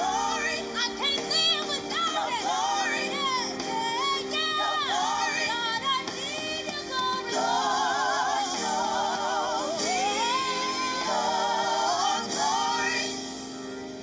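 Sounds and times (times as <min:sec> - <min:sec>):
woman singing gospel with vibrato: 0:00.0 - 0:13.2
held backing chords: 0:00.0 - 0:14.0.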